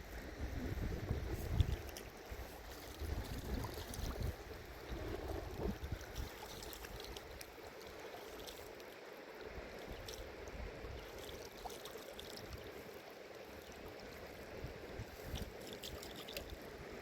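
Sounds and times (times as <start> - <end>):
stream water rushing: 1.7 - 17.0.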